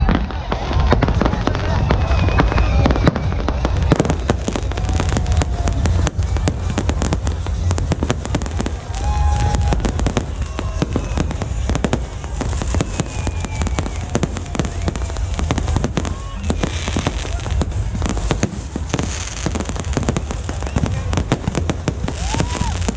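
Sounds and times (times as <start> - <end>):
fireworks bangs and crackles: 0.0 - 22.9
steady low rumble: 0.0 - 22.9.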